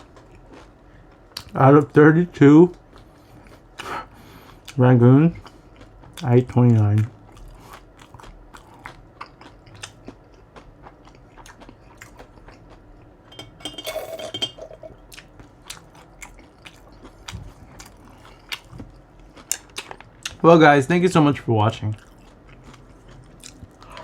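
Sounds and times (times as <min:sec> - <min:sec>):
chewing crisp food: 0:00.0 - 0:13.3, 0:15.0 - 0:20.4, 0:21.2 - 0:24.0.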